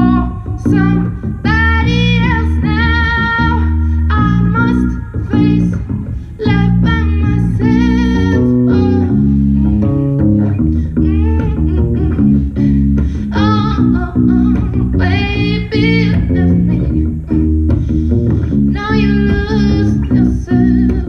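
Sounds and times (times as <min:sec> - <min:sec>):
bass guitar: 0:00.0 - 0:21.0
electric guitar: 0:00.0 - 0:21.0
woman singing into microphone: 0:00.0 - 0:21.0.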